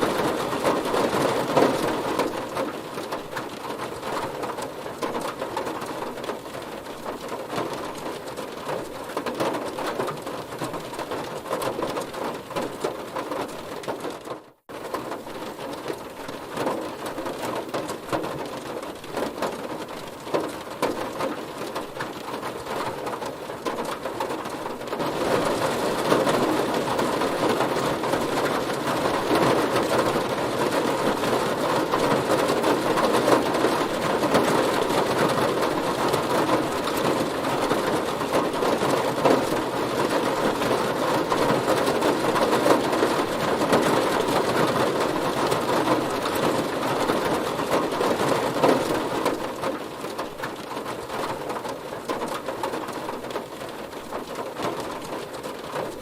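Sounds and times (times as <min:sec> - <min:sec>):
rain falling on a car: 0:00.0 - 0:56.0.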